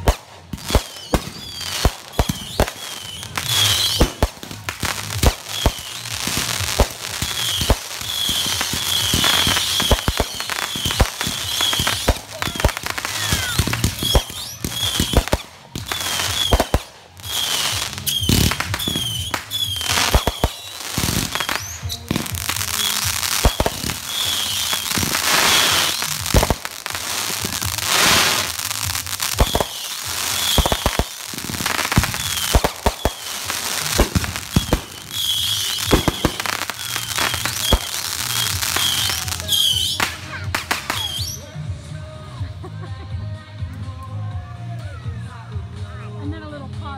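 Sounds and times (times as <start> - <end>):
fireworks bangs: 0.0 - 41.5
fireworks crackle: 0.0 - 41.6.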